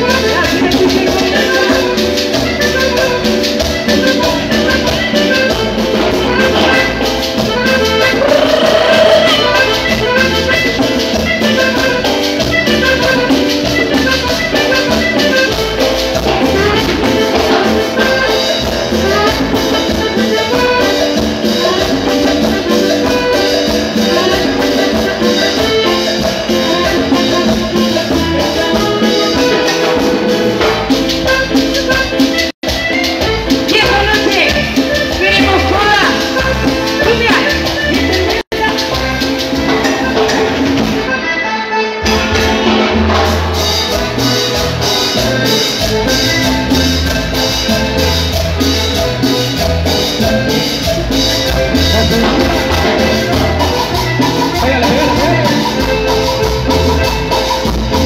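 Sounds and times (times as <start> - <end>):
live latin band music: 0.0 - 58.0.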